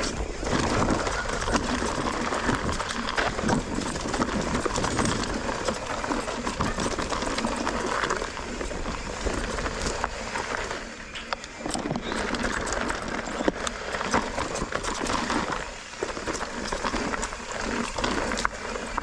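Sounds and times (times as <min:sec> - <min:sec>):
bike rattling and knocking: 0:00.0 - 0:19.0
tyres crunching on rocks: 0:00.0 - 0:19.0.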